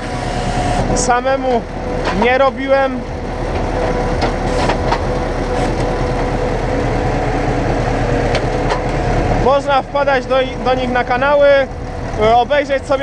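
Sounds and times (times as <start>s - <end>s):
diesel engine running: 0.0s - 13.0s
hydraulic whine: 0.0s - 13.0s.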